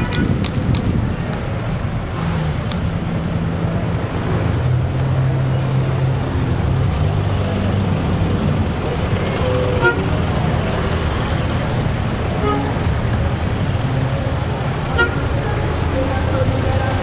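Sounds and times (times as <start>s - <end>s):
traffic engines droning: 0.0s - 17.0s.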